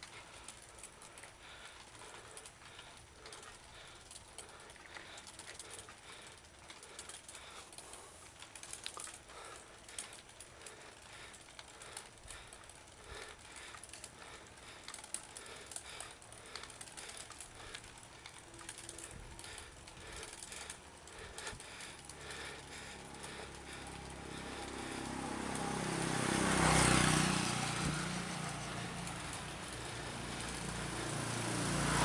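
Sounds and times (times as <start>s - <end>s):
bicycle freewheel clicking: 0.0s - 32.0s
tyres rolling on pavement: 0.0s - 32.0s.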